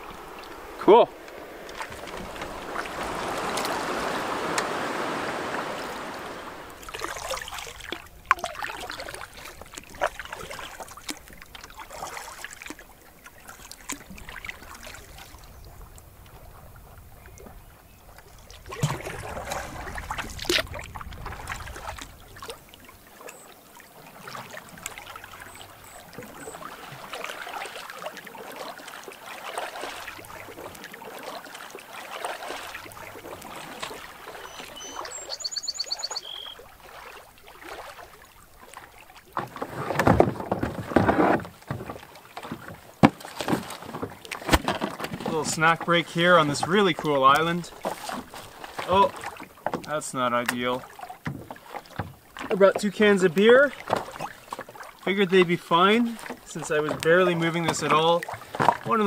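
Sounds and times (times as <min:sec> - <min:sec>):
water splashing around canoe: 0:00.0 - 0:59.0.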